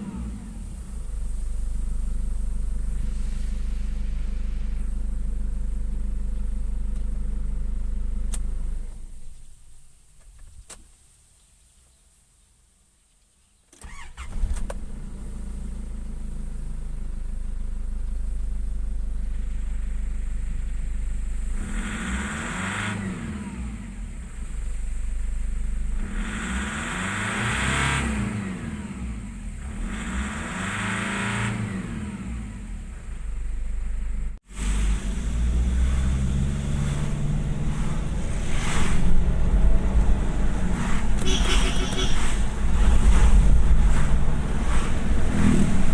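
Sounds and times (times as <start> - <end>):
diesel engine starting and revving: 0.0 - 9.6, 13.8 - 45.9.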